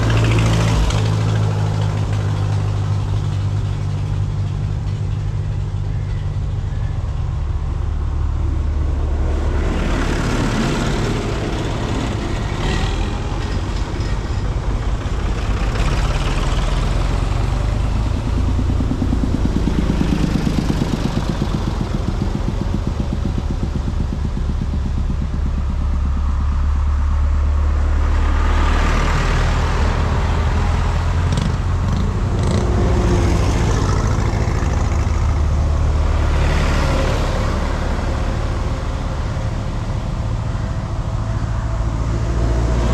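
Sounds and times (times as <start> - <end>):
tractor engines driving past: 0.0 - 42.9.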